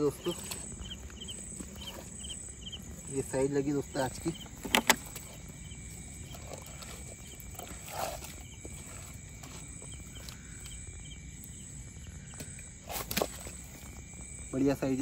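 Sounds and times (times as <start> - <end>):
crickets chirping: 0.0 - 15.0
low background hum: 0.0 - 15.0.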